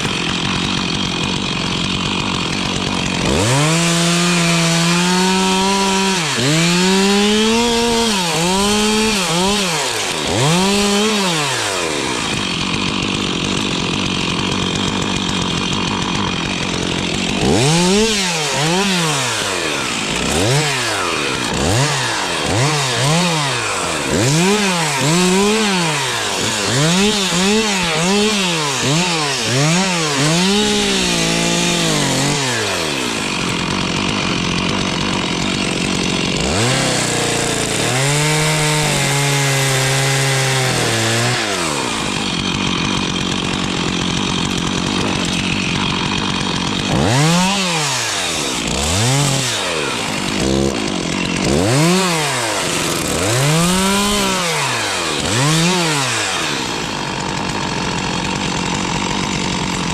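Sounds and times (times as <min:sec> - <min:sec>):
chainsaw engine revving: 0:00.0 - 0:59.9.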